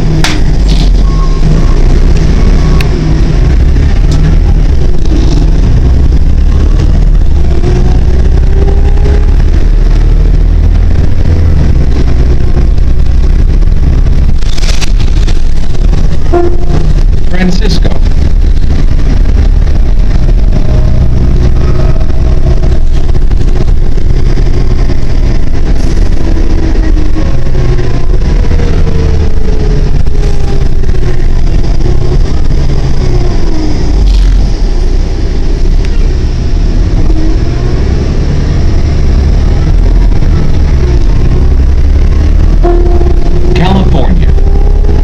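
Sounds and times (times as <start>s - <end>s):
bus engine rumble: 0.0s - 45.0s
road noise: 0.0s - 45.0s
whine gliding in pitch: 0.0s - 45.0s.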